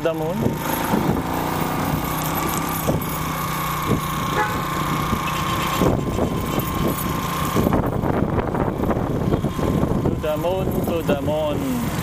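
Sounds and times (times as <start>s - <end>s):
motorcycle engine: 0.0s - 12.0s
wind noise on microphone: 0.2s - 12.0s.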